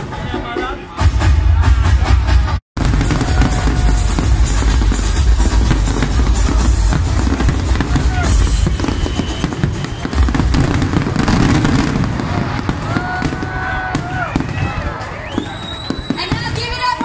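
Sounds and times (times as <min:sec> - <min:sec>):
loud music with a beat: 0:00.0 - 0:15.0
firework shells bursting: 0:02.8 - 0:16.6.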